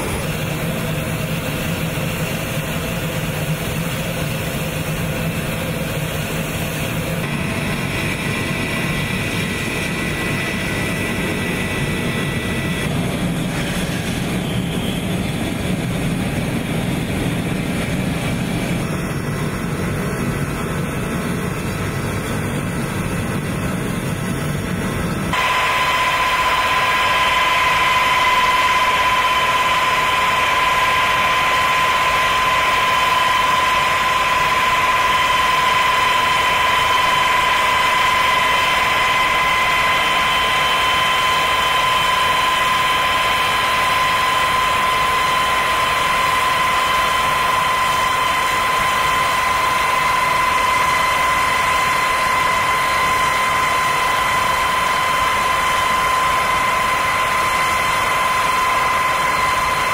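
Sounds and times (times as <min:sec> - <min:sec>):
high-pitched turbine whine: 0:00.0 - 0:59.9.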